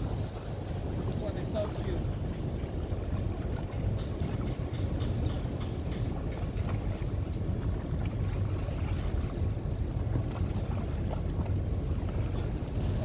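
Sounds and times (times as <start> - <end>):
motorboat engine drone: 0.0 - 13.0
water noise: 0.0 - 13.0
wind: 0.0 - 13.0.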